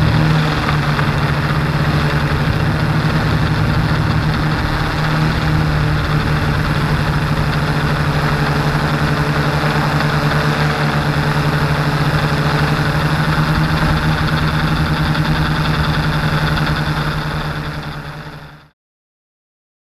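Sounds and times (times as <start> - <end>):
drone propellers buzzing: 0.0 - 18.7
rushing air noise: 0.0 - 18.7.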